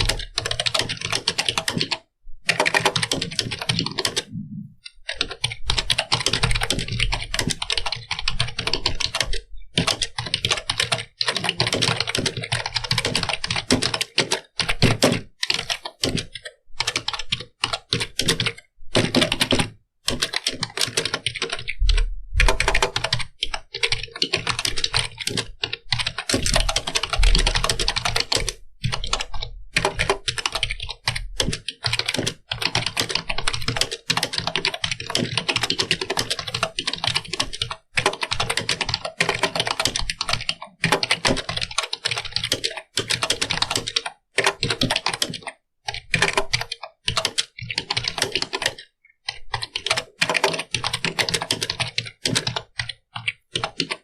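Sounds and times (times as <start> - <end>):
fast keyboard typing: 0.0 - 54.0.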